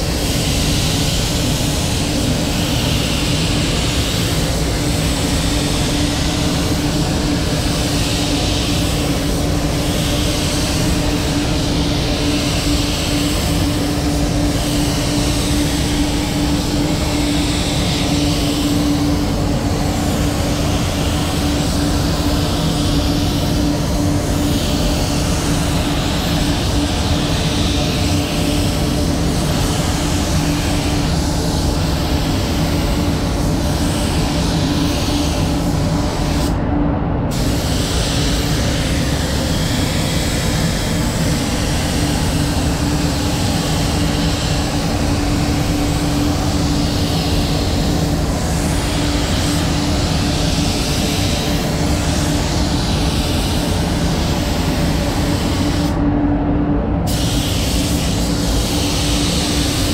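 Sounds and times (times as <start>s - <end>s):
spray gun hissing: 0.0s - 36.6s, 37.3s - 56.0s, 57.1s - 59.9s
ventilation hum: 0.0s - 59.9s.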